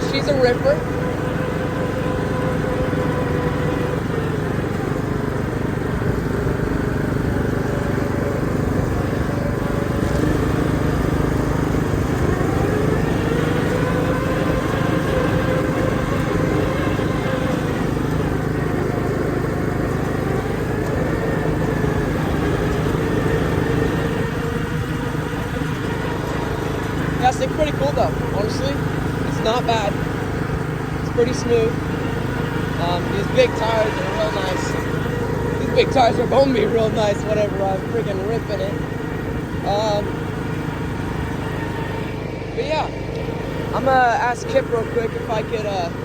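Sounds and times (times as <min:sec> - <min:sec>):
riding lawnmower engine: 0:00.0 - 0:46.0.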